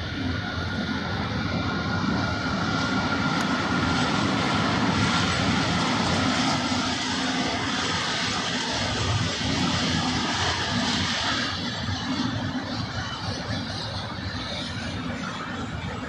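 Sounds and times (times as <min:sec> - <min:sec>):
train rushing rumble: 0:00.0 - 0:16.0.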